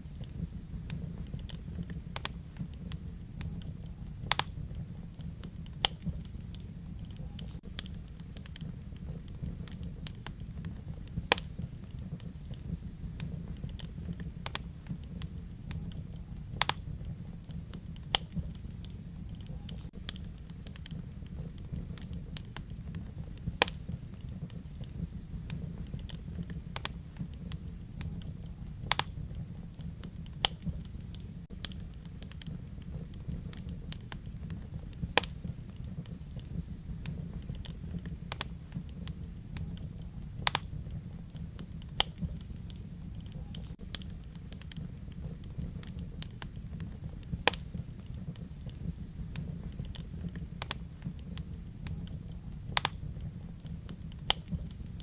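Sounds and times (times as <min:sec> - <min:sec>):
fire pops and snaps: 0:00.0 - 0:55.0
low rumble of burning logs: 0:00.0 - 0:55.0
wood fire crackling: 0:00.0 - 0:55.0.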